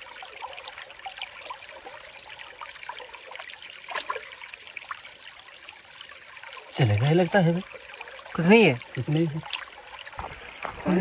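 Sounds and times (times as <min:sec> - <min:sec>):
creek water running over stones: 0:00.0 - 0:11.0.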